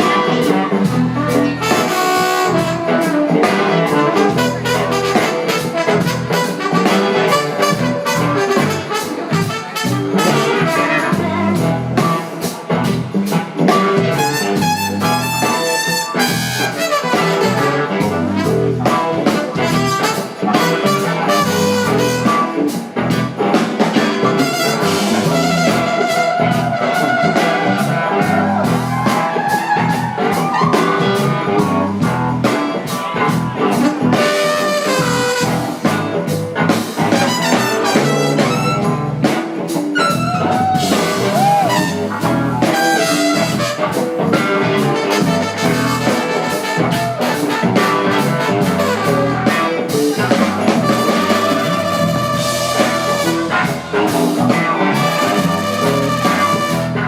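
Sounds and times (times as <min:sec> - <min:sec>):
brass horn line: 0:00.0 - 0:11.8, 0:13.7 - 0:22.8, 0:24.0 - 0:32.0, 0:33.7 - 0:36.1, 0:37.0 - 0:39.4, 0:40.0 - 0:57.0
blues-rock band playing: 0:00.0 - 0:57.0.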